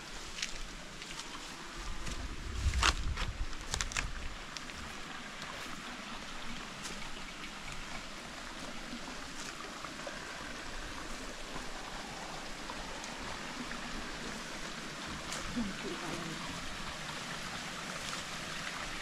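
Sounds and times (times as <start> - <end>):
stream trickling over rocks: 0.0 - 19.0.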